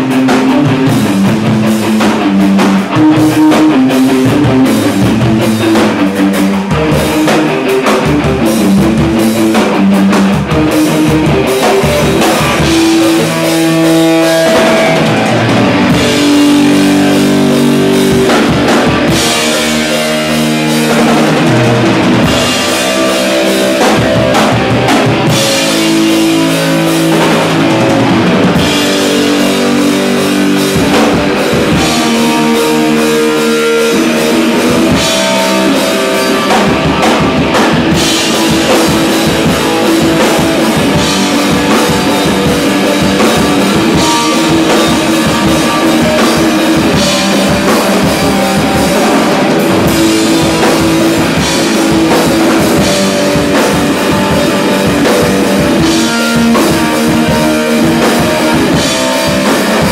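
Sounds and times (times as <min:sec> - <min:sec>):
drum kit and cymbal hits: 0:00.0 - 0:59.9
electric guitar chords: 0:00.0 - 0:59.9.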